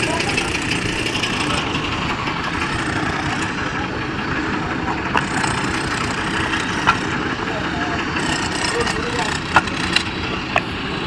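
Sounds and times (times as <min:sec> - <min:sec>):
noisy site background: 0:00.0 - 0:11.0.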